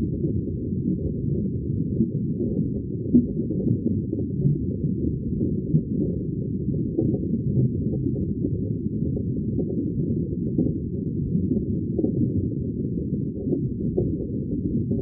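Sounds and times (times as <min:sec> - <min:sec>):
muffled underwater bubbling: 0:00.0 - 0:15.0.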